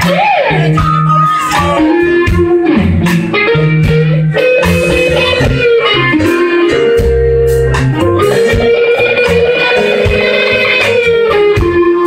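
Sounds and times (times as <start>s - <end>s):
electric bass: 0.0s - 12.0s
electric lead guitar bending notes: 0.0s - 12.0s
steady drum beat: 0.0s - 12.0s.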